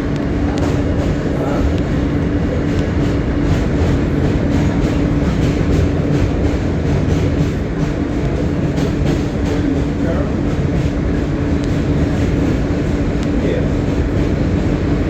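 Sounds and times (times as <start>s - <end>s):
constant hum: 0.0s - 15.0s
rail joints clicking: 0.0s - 15.0s
subway train wheels rumbling: 0.0s - 15.0s.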